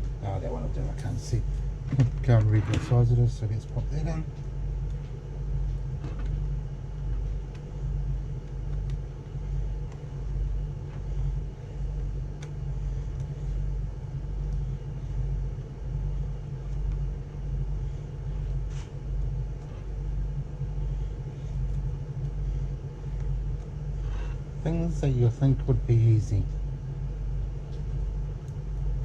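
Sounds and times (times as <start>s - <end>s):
low pulsing rumble: 0.0s - 29.0s.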